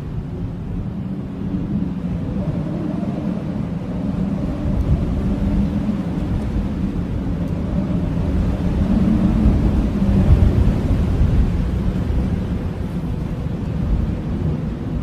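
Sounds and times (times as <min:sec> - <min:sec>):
blizzard wind howling: 0:00.0 - 0:15.0.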